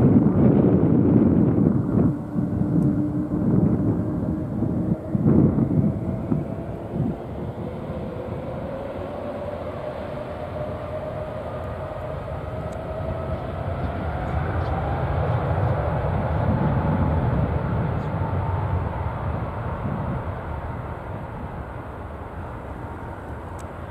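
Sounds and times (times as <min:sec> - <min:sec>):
jet engines spooling up: 0:00.0 - 0:23.9.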